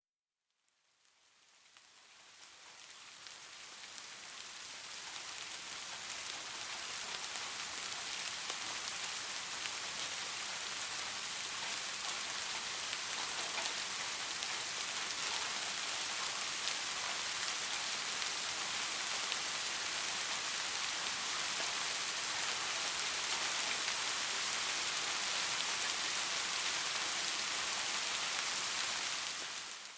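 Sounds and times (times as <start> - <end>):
steady rain falling: 0.8 - 29.9.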